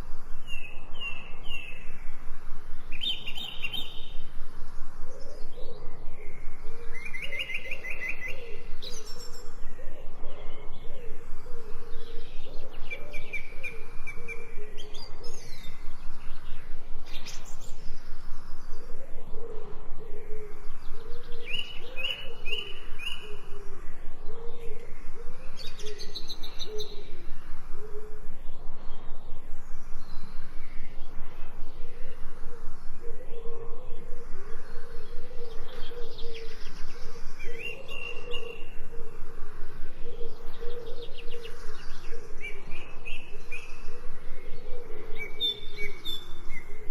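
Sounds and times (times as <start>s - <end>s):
lower warbling or cooing calls: 0.0s - 46.9s.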